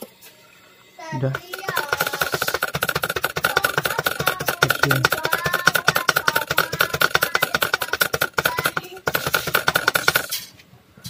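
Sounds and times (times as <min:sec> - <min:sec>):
small brush scrubbing rapidly: 0:01.3 - 0:10.4.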